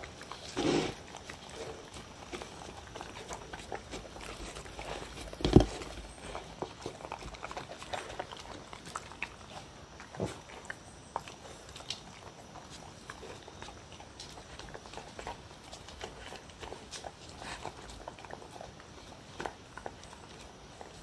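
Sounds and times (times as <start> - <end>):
dogs chewing and lapping food: 0.0 - 21.0.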